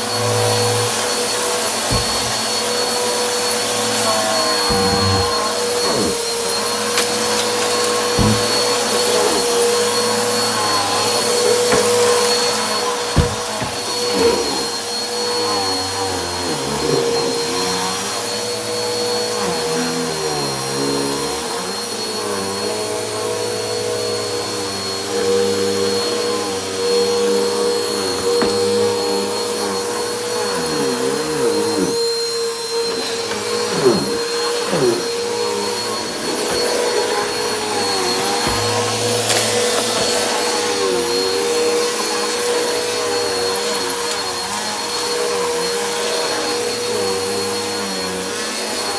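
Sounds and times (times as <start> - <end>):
vacuum cleaner running on carpet: 0.0 - 48.9.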